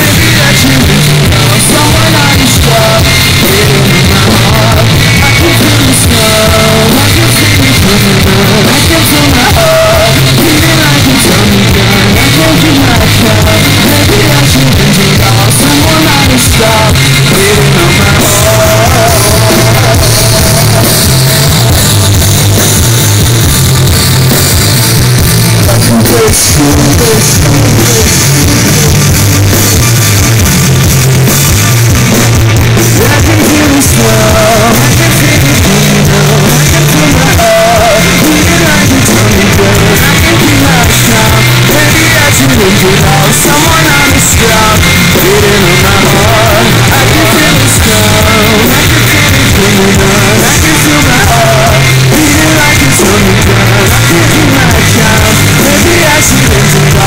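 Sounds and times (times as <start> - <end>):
bass guitar: 0.0 - 57.0
distorted electric guitar: 0.0 - 57.0
drum kit: 0.0 - 57.0.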